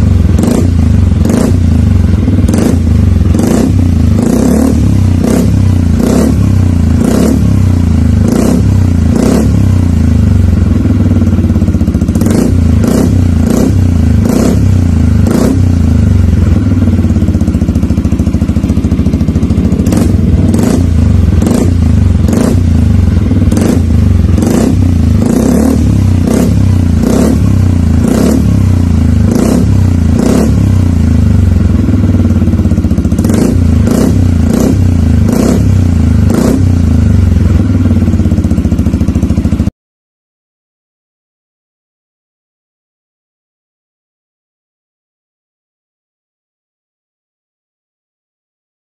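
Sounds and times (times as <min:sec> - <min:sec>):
scooter engine running loud: 0:00.0 - 0:39.7.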